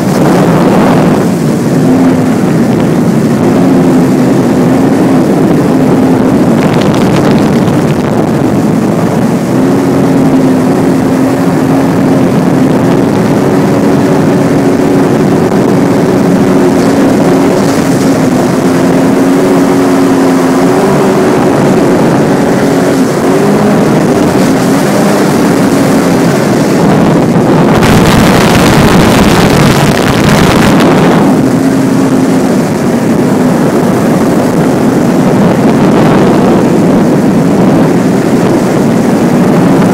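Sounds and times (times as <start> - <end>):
loud rushing noise: 0.0 - 39.9
watercraft engine running: 0.0 - 39.9.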